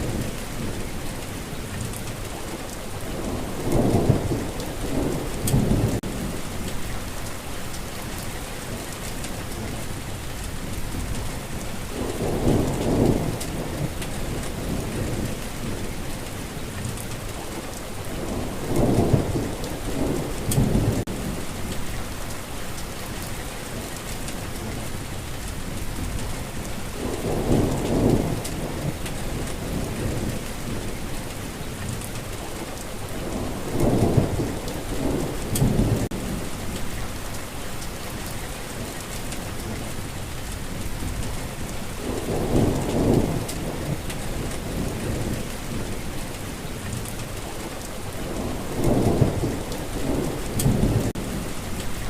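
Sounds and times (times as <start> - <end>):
rainfall hissing: 0.0 - 52.0
thunder rumbling: 3.0 - 23.3, 24.0 - 52.0.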